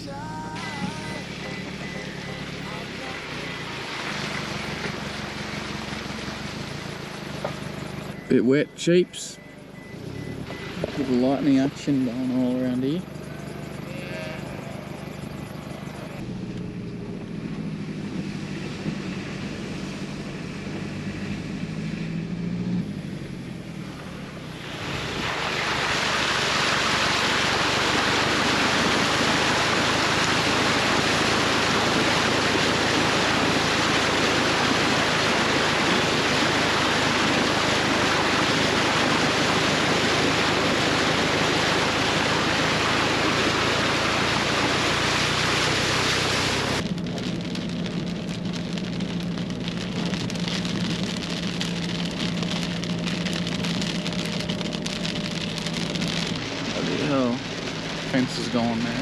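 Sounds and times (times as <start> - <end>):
heavy rain pouring: 0.0 - 13.7, 23.8 - 59.0
vehicle engine running: 0.0 - 59.0.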